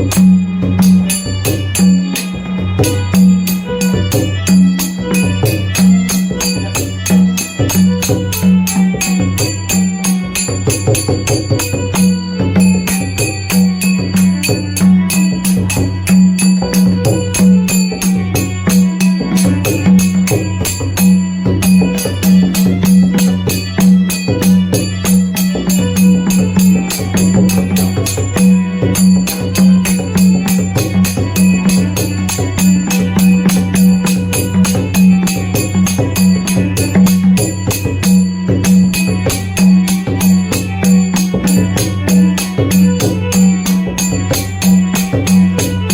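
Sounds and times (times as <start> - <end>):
deep drum beating fast rhythm: 0.0 - 45.9
jingling metal percussion: 0.0 - 45.9.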